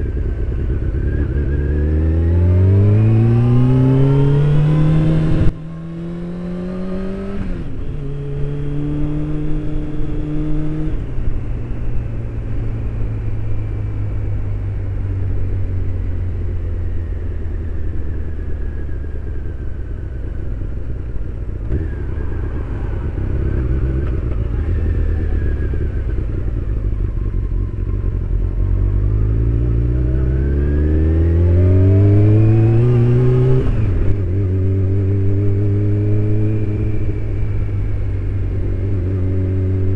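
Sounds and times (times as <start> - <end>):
motorcycle engine: 0.0 - 39.9
wind and road rush: 0.0 - 39.9.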